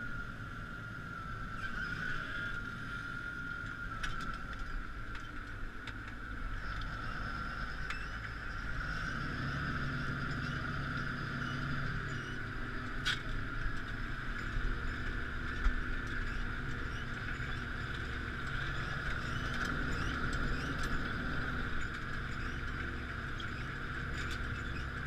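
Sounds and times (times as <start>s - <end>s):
tractor diesel engine rumble: 0.0s - 25.0s.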